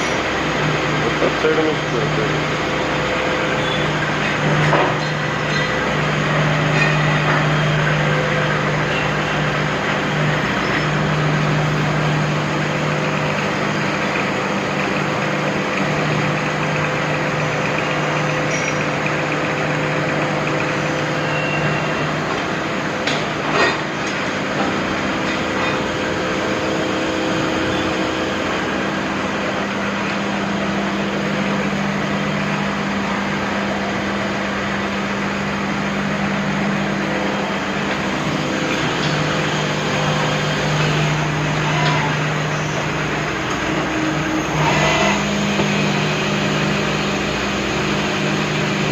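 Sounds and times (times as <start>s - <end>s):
machine hum with hiss: 0.0s - 48.9s.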